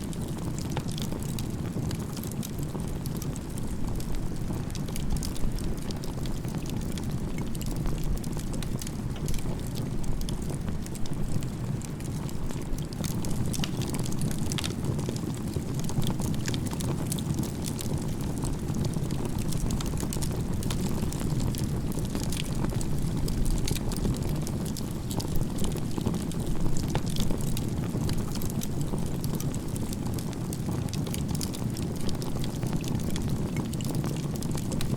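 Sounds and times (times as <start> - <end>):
fire crackling and popping: 0.0 - 34.9
campfire flames rushing: 0.1 - 34.9.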